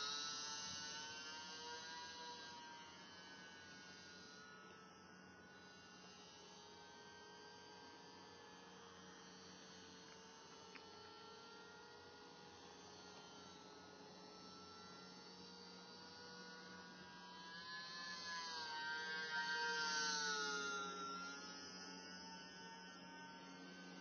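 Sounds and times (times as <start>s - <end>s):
model plane motor whine: 0.0s - 24.0s.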